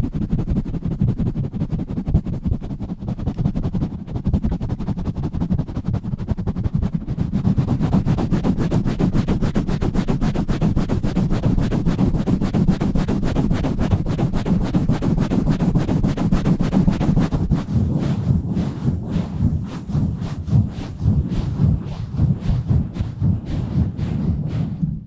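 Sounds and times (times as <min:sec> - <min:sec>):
hands pumping over microphone: 0:00.0 - 0:25.0.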